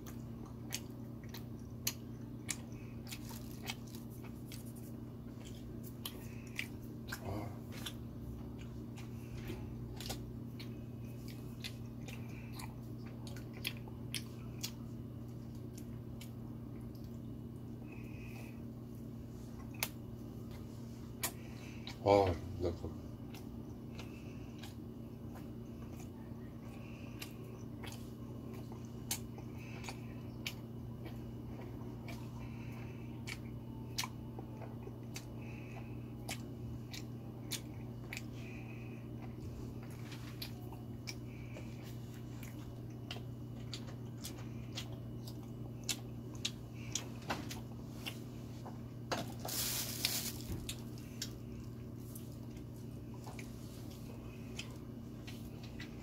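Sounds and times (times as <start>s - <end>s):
chewing sticky rice cakes: 0.0s - 56.0s
low electrical hum: 0.0s - 56.0s.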